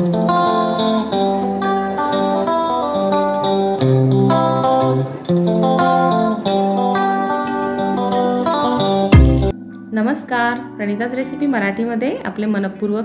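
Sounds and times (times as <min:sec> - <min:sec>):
plucked guitar melody: 0:00.0 - 0:13.0.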